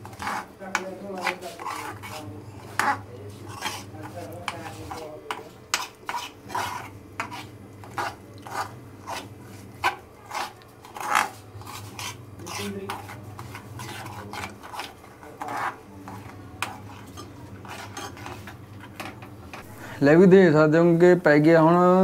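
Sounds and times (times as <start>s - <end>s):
metal spoon scraping a metal pan: 0.0s - 19.2s
steady low hum: 0.0s - 21.3s.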